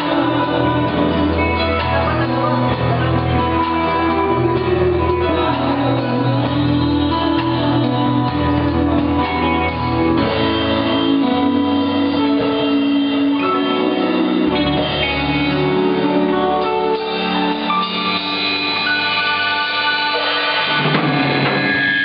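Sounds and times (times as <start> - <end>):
live band with guitars: 0.0 - 22.0.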